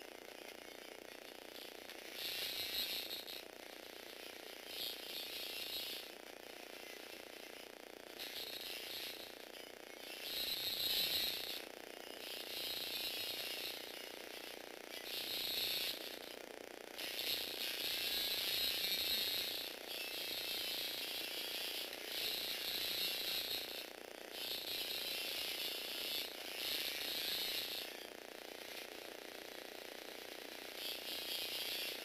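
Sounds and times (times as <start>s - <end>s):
toy electric motor whirring: 0.0s - 32.0s.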